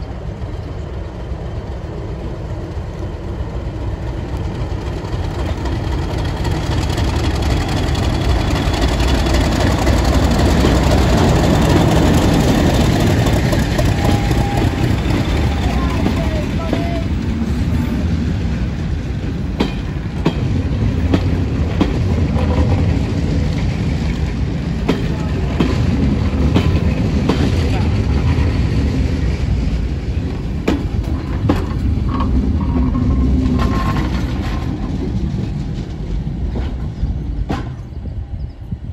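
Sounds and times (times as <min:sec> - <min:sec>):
train coaches rolling past: 0:00.0 - 0:38.9
wheels clicking over rail joints: 0:02.7 - 0:29.3, 0:30.3 - 0:38.0.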